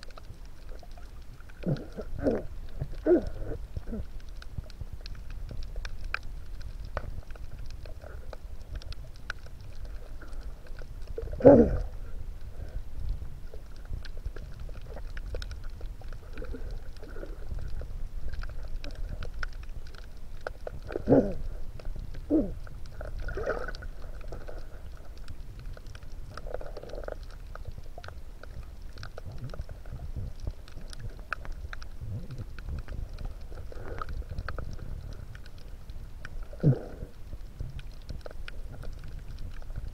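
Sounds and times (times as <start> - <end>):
faint crackling clicks: 0.0 - 39.9
low underwater rumble: 0.0 - 39.9
water swishes: 0.0 - 39.9.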